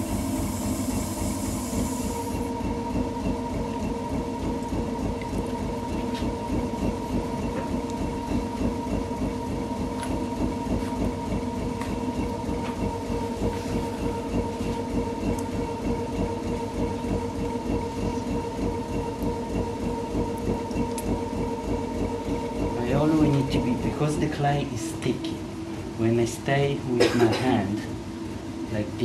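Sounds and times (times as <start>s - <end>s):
potter's wheel spinning: 0.0s - 26.6s.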